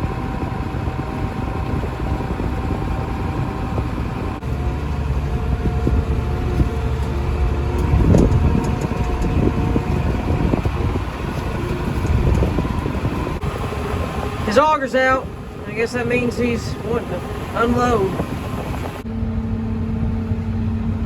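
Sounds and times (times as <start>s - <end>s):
steady whining tones: 0.0s - 21.0s
tractor engine rumbling: 0.0s - 21.0s.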